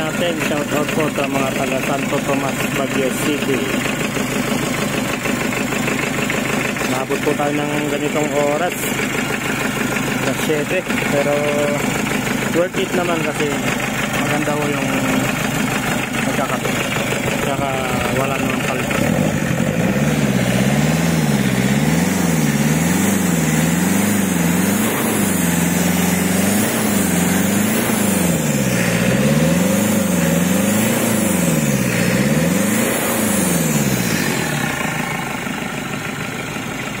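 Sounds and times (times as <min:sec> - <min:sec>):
diesel engine revving: 0:00.0 - 0:37.0.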